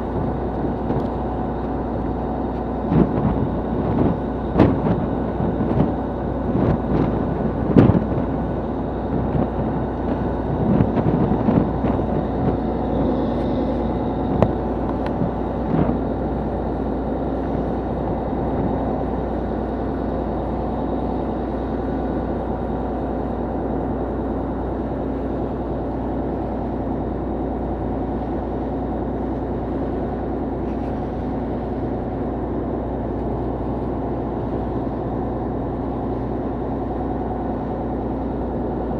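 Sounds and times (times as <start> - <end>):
boat engine humming: 0.0 - 38.9.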